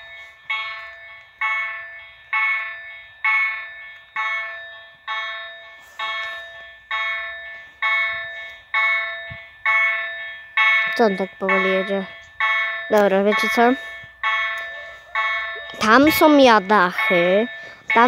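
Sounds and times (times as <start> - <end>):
level-crossing warning bell: 0.0 - 18.0.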